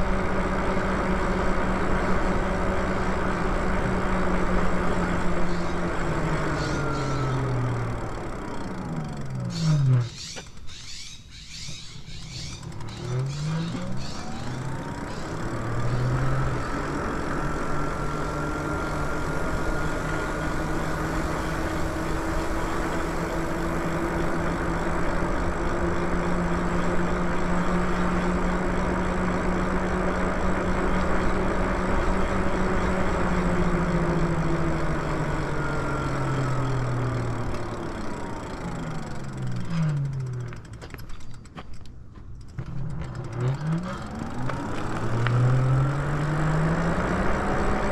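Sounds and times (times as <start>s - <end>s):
electric motor whining: 0.0s - 41.4s, 42.4s - 47.9s
wind and road noise: 0.0s - 47.9s.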